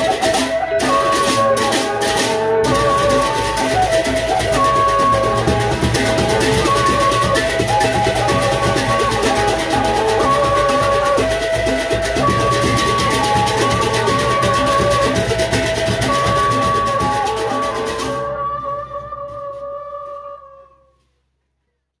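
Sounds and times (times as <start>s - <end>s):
large drums beating: 0.0s - 20.0s
cymbals beating: 0.0s - 20.6s.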